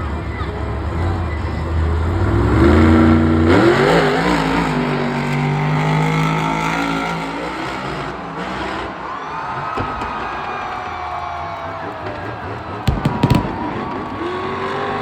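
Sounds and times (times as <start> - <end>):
truck engine revving: 0.8 - 9.1, 11.2 - 15.0.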